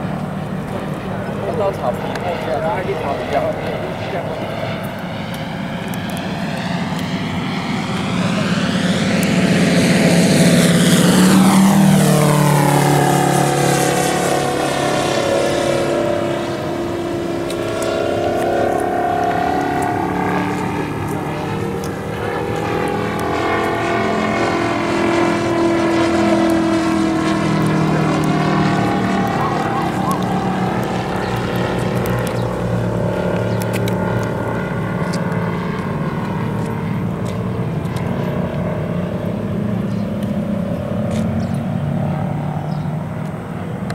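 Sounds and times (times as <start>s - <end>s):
model plane engine flying by: 0.0s - 43.9s.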